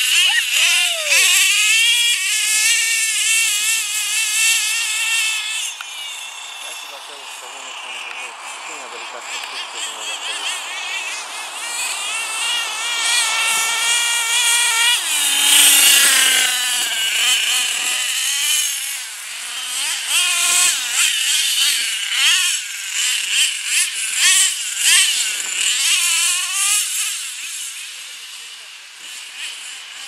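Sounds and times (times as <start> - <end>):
model truck engine buzzing whine: 0.0 - 30.0.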